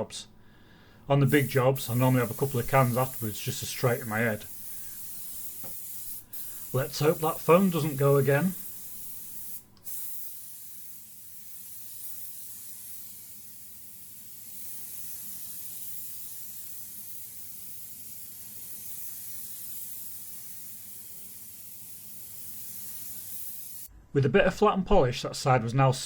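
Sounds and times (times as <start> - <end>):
spray gun hissing: 1.2 - 23.9.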